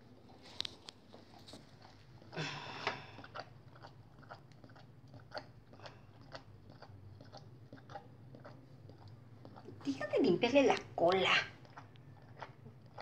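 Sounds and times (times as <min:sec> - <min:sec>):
puppies suckling mouth clicks: 0:00.0 - 0:13.0.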